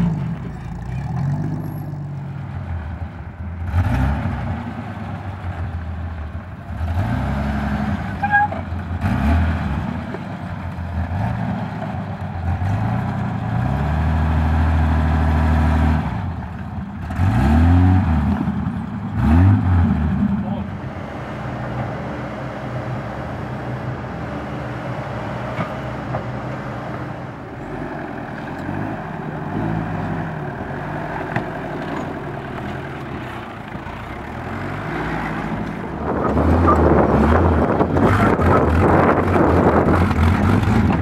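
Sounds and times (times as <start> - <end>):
off-road vehicle engine revving: 0.0 - 5.8, 6.6 - 10.2, 10.9 - 16.3, 17.0 - 41.0.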